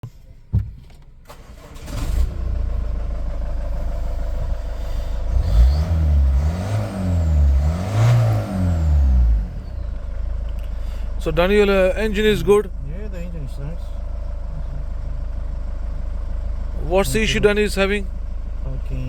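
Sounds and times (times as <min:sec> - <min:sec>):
car engine starting and revving: 0:01.0 - 0:19.0.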